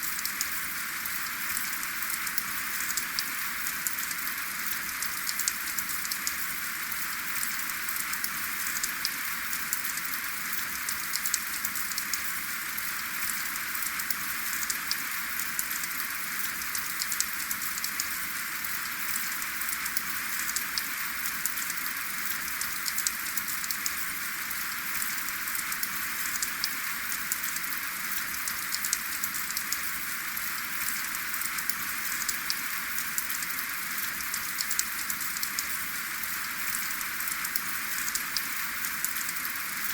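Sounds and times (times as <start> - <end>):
steady rain with ticking drops: 0.0 - 39.9.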